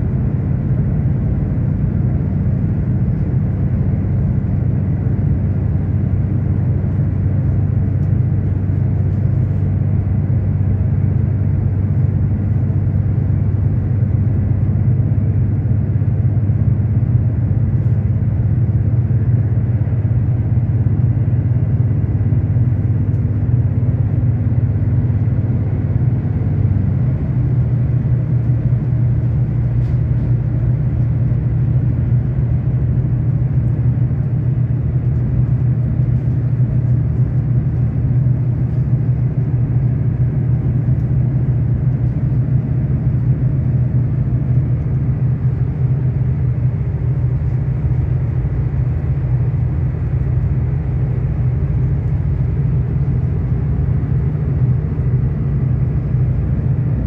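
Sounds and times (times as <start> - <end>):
train engine hum: 0.0 - 57.0
wheels rumbling on track: 0.0 - 57.0.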